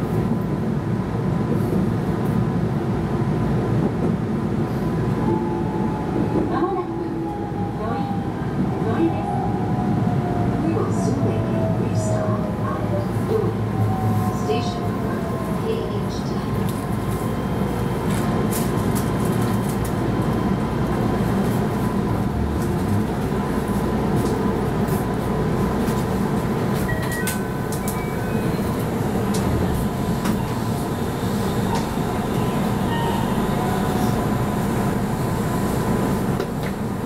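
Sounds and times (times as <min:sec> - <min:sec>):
train cab rumble: 0:00.0 - 0:37.0.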